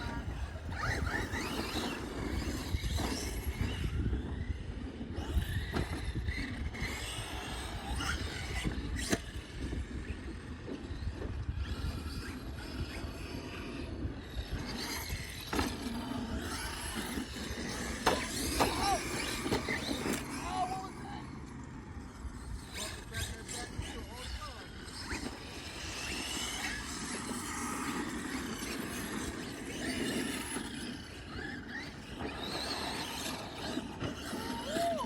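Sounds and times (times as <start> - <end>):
electric motor whine: 0.0 - 35.0.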